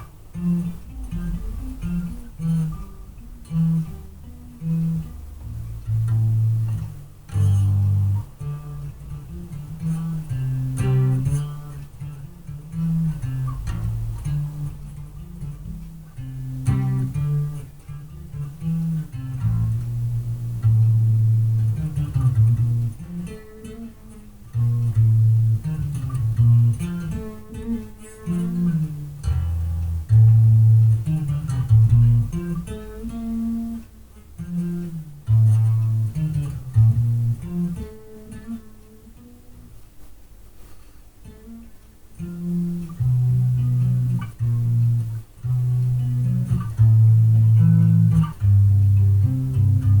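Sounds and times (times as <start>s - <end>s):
electric bass plucked notes: 0.0s - 38.5s, 42.2s - 50.0s.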